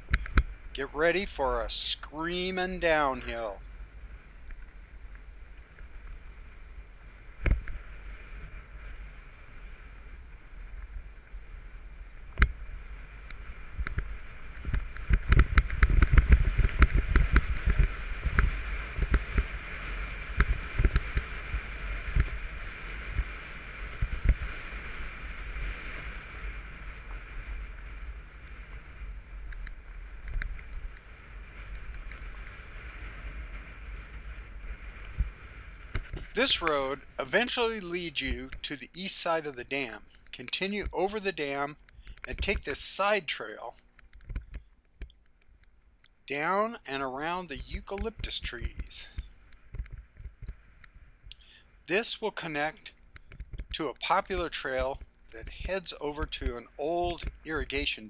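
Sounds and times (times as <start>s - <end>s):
wind and tyre noise: 0.0s - 58.0s.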